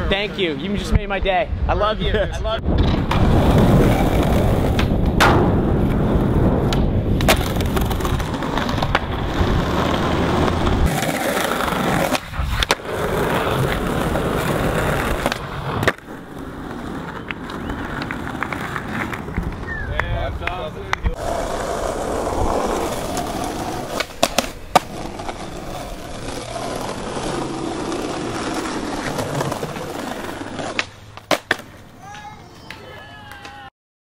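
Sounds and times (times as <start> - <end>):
skateboard wheels rolling on pavement: 2.1 - 33.7
skateboard popping and landing: 2.8 - 19.8, 20.4 - 32.8.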